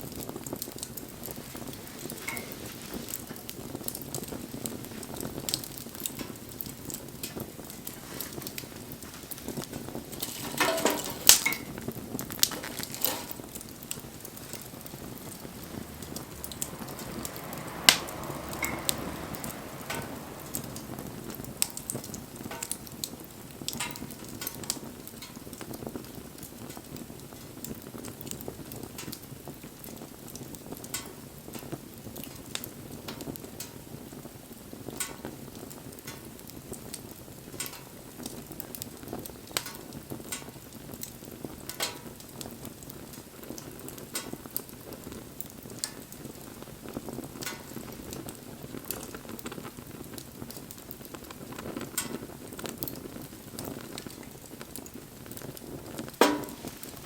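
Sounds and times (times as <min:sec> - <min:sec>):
campfire crackling and popping: 0:00.0 - 0:57.0
low rush of flame: 0:00.0 - 0:57.0.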